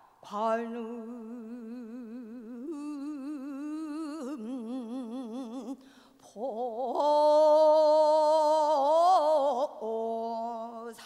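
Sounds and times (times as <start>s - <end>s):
woman singing with vibrato: 0.0s - 11.0s.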